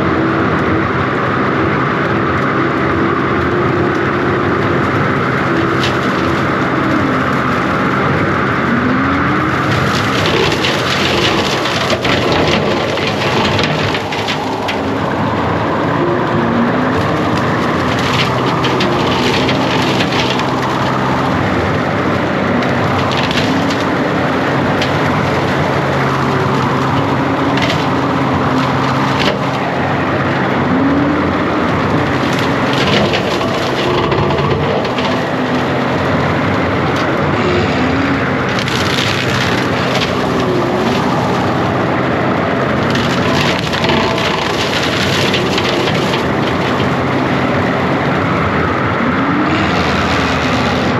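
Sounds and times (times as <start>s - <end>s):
branches cracking and splintering: 0.0s - 50.9s
diesel engine under load: 0.0s - 50.9s.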